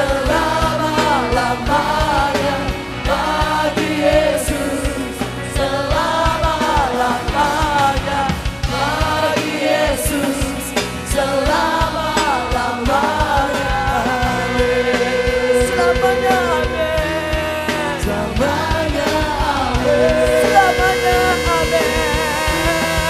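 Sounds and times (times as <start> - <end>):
band with steady drum beat: 0.0 - 23.0
group of voices singing: 0.0 - 23.0.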